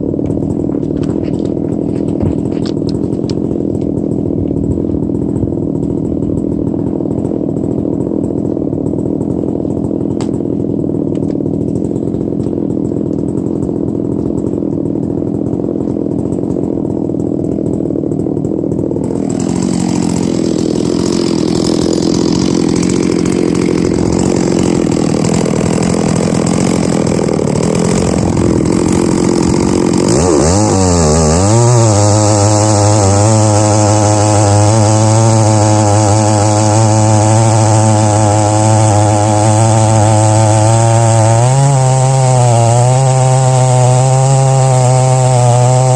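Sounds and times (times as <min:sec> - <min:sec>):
chainsaw milling wood: 0:00.0 - 0:45.9.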